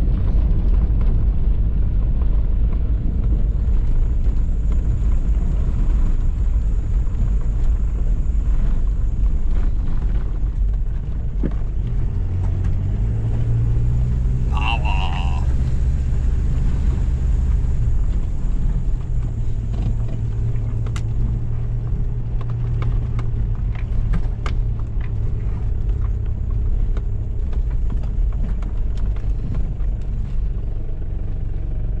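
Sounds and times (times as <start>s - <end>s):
diesel engine running: 2.2s - 32.0s.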